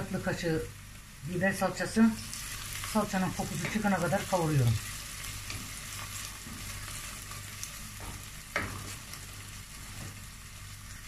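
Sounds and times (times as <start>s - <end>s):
paste sizzling in a pot: 0.0s - 11.0s.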